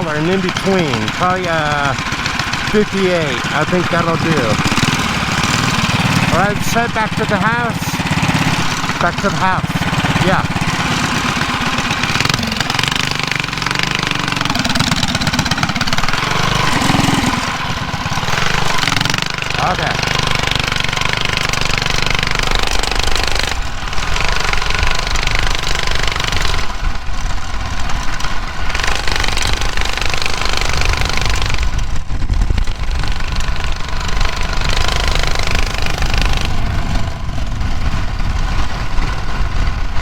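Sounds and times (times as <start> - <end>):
mini bike engine running: 0.0 - 40.0.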